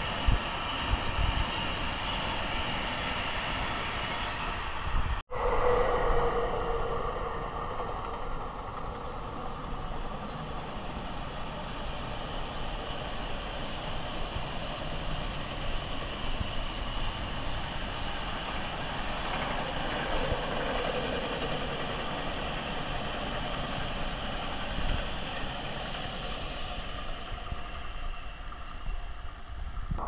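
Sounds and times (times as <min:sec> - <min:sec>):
train rumbling and whining: 0:00.0 - 0:30.0.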